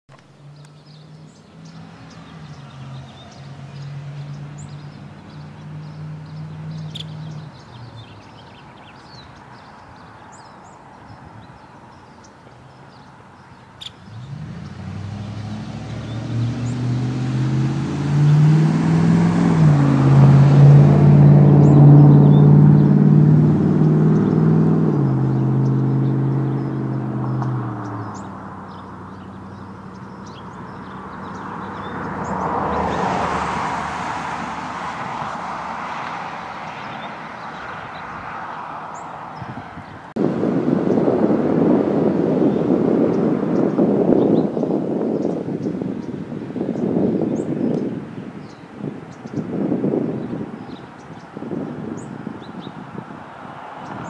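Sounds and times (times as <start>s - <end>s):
vehicle engine hum with road hiss: 0.1s - 54.0s.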